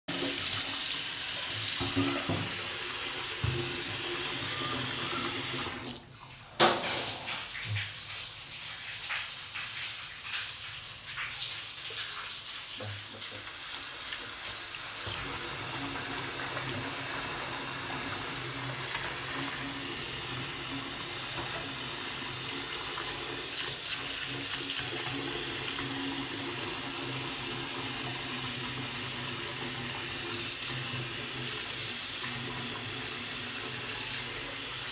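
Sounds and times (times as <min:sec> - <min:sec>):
tap water splashing into sink: 0:01.5 - 0:04.5, 0:05.2 - 0:08.2, 0:08.8 - 0:33.0.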